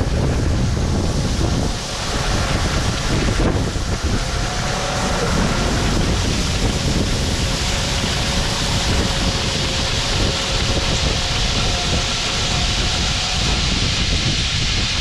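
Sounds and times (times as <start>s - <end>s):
harvest machinery running: 0.0s - 15.0s.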